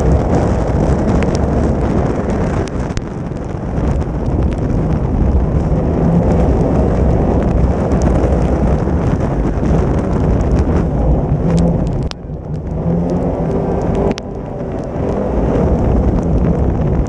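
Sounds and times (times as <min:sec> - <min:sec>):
car engine running hard: 0:00.0 - 0:17.0
gravel ticking against car: 0:00.0 - 0:17.0
wind buffeting microphone: 0:00.0 - 0:17.0.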